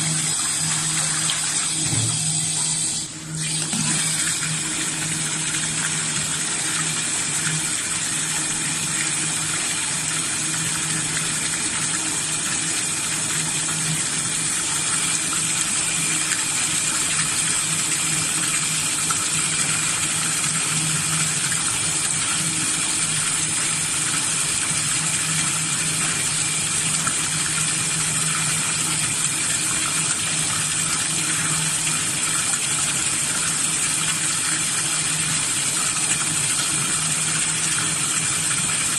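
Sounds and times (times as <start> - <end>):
running water splashing into tub: 0.0 - 38.9.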